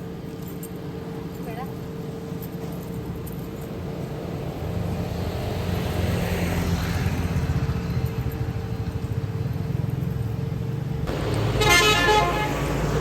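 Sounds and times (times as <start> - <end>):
engine running with low pulsing: 0.0 - 13.0.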